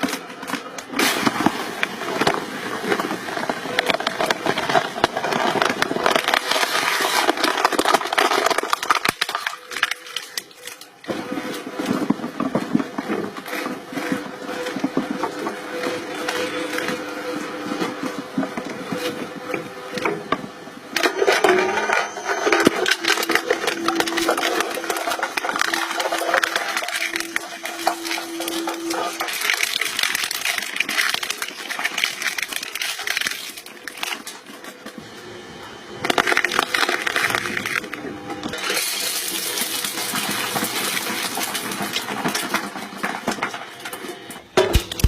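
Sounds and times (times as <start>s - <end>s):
crushing machine cracking objects: 0.0s - 35.2s, 36.0s - 45.0s.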